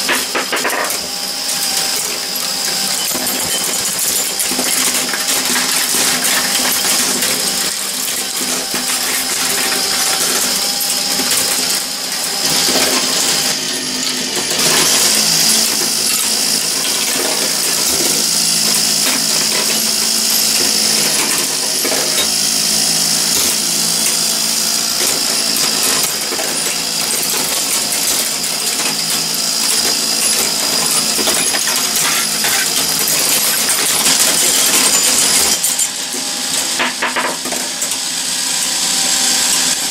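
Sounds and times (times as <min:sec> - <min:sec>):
marbles rolling on steel chutes: 0:00.0 - 0:01.1, 0:01.8 - 0:37.8.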